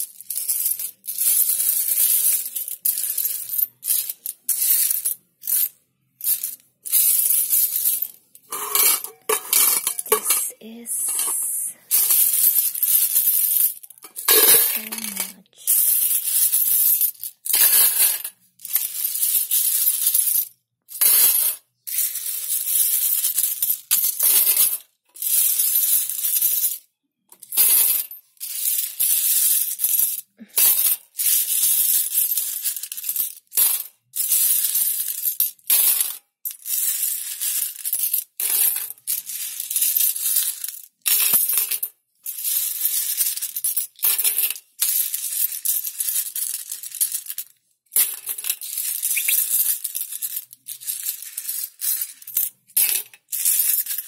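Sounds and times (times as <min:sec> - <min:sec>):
coins clinking into tin: 0:00.0 - 0:26.8, 0:27.4 - 0:54.0.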